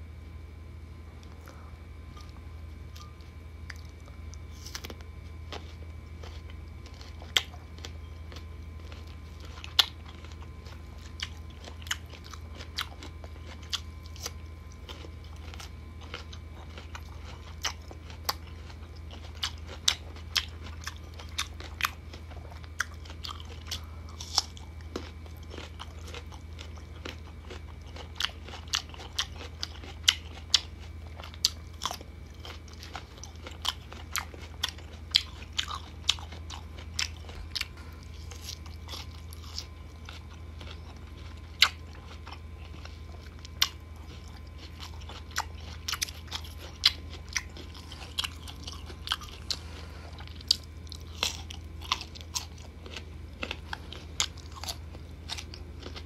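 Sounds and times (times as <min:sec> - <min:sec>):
low hum: 0:00.0 - 0:56.0
crunching mango slices: 0:03.0 - 0:56.0.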